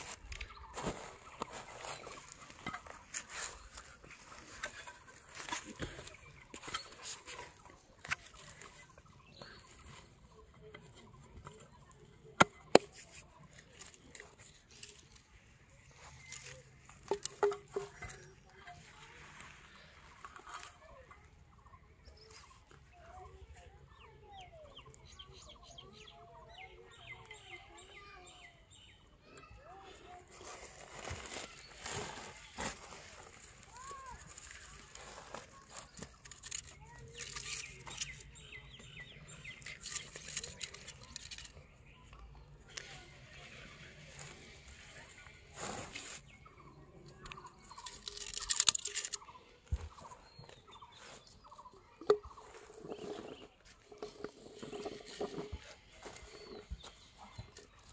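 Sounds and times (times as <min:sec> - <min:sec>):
close crackling and rustling: 0:00.0 - 0:21.3, 0:29.7 - 0:57.9
birds chirping: 0:00.0 - 0:57.9.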